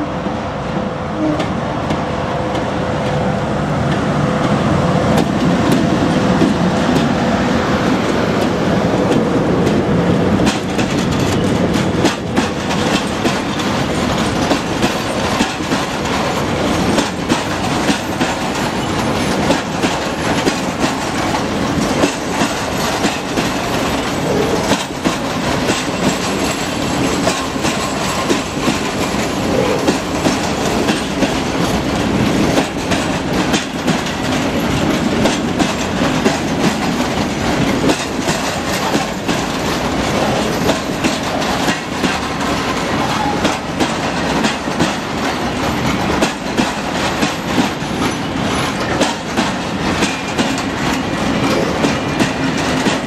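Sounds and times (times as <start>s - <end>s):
electric locomotive humming: 0.0s - 53.0s
wagon wheels clacking over rail joints: 8.4s - 53.0s.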